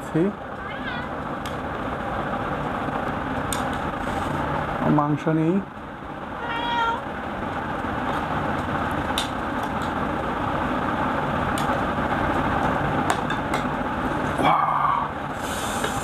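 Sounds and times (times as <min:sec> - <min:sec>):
machine-like background hum: 0:00.0 - 0:16.0.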